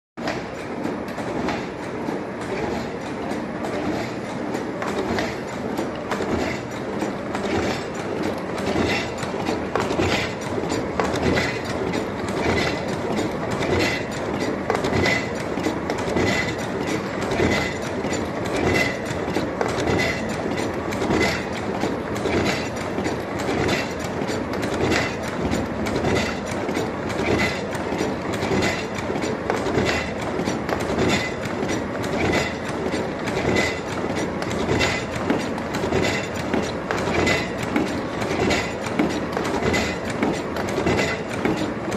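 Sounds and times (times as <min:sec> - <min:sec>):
machine clattering with rapid clicks: 0:00.2 - 0:41.9.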